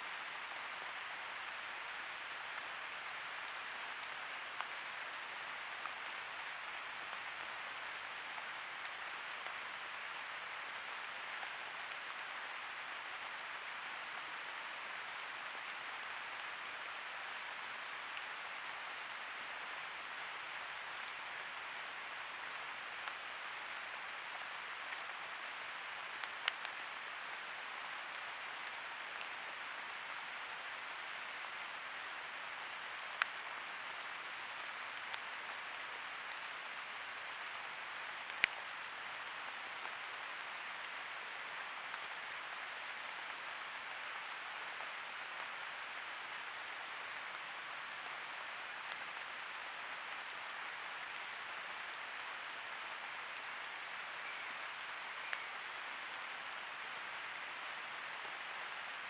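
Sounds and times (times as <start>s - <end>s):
microphone hiss: 0.0s - 59.0s.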